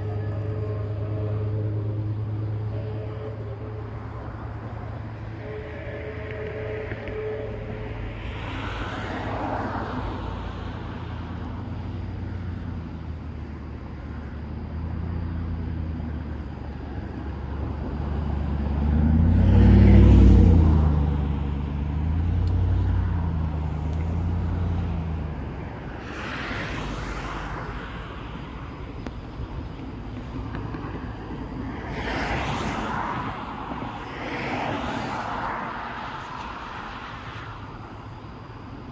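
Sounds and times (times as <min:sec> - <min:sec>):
traffic noise: 0:00.0 - 0:38.9
vehicle engine passing by: 0:00.0 - 0:38.9.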